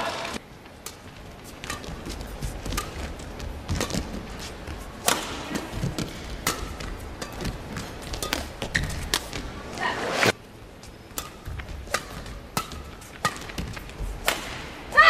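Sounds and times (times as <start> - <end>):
shoes squeaking on court: 0.7 - 14.3
racket hitting shuttlecock: 0.8 - 10.0, 11.1 - 15.0.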